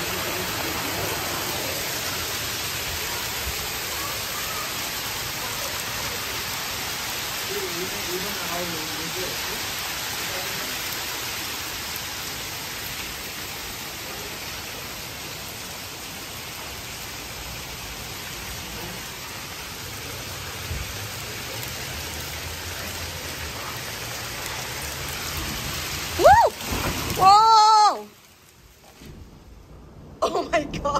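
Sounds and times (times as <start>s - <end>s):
hail and rain on concrete: 0.0s - 30.9s.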